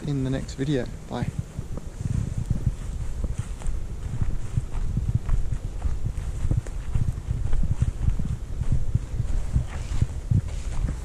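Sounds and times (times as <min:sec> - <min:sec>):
footsteps on dirt track: 0:00.0 - 0:11.0.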